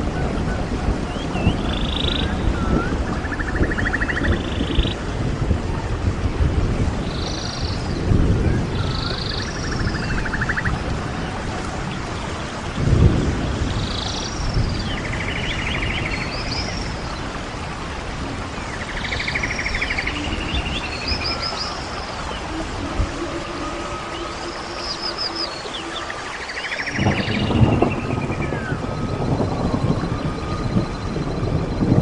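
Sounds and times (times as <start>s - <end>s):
wind rumble: 0.0s - 32.0s
songbirds with buzzy trill: 1.0s - 5.1s, 7.0s - 10.9s, 11.8s - 17.4s, 18.6s - 32.0s.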